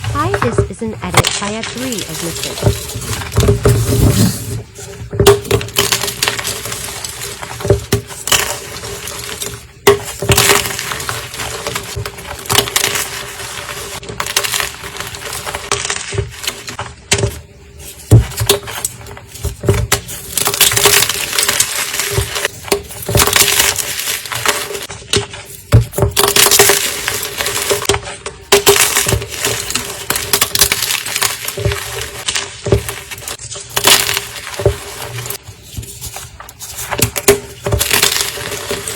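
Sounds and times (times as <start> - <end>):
chalk crunching and crumbling: 0.0 - 38.9.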